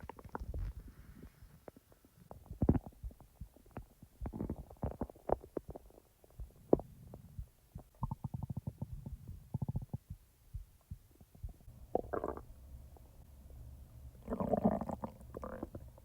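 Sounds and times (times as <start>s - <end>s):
stomach gurgling and rumbling: 0.0s - 13.1s, 14.2s - 16.0s.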